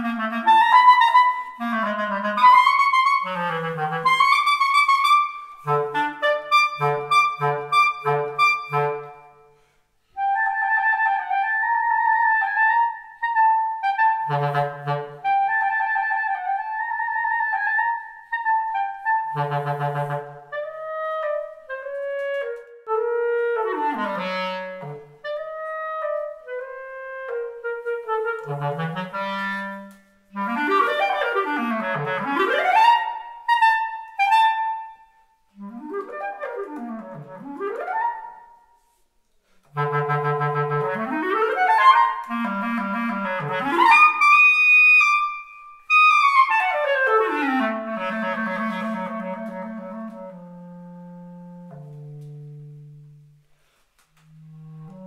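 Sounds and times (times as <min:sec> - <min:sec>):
solo clarinet playing: 0:00.0 - 0:55.0.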